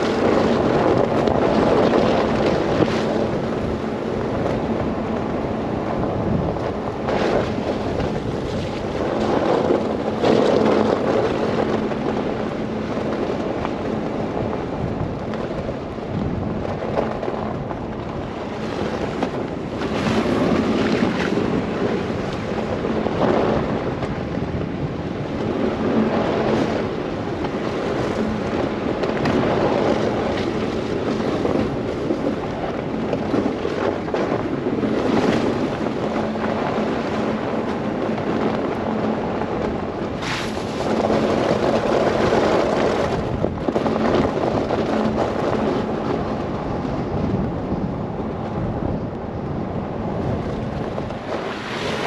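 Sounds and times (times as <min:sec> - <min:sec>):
blizzard wind gusts: 0:00.0 - 0:52.0.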